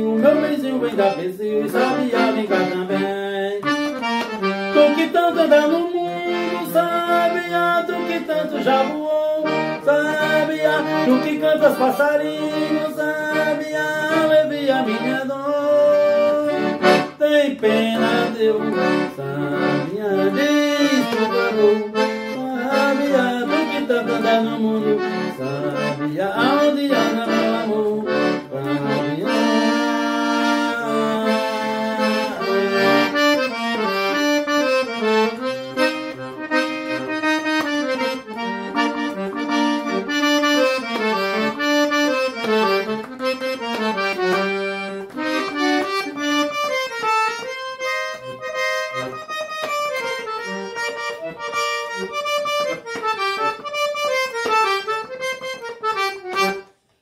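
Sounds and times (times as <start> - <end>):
accordion melody: 0.0 - 57.0.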